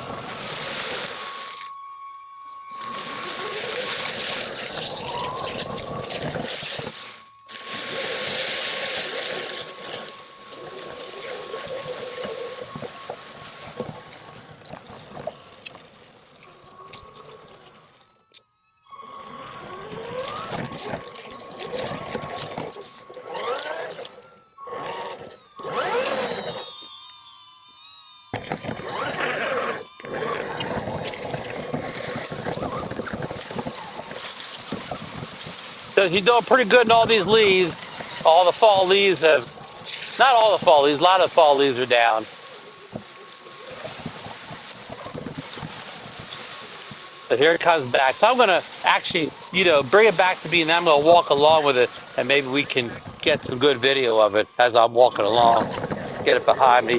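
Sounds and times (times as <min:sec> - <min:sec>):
electric motor whining: 0:00.0 - 0:56.9
tires rustling through dry leaves: 0:00.0 - 0:56.9.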